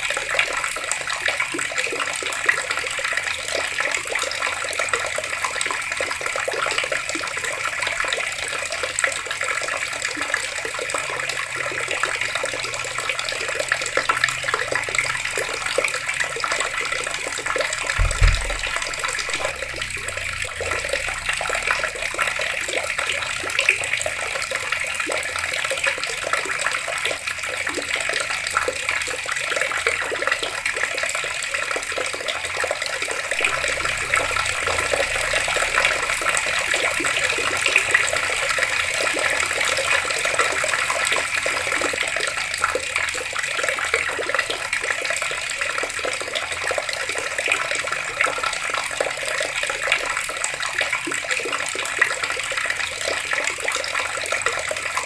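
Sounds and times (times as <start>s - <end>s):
water running from taps: 0.0s - 55.0s.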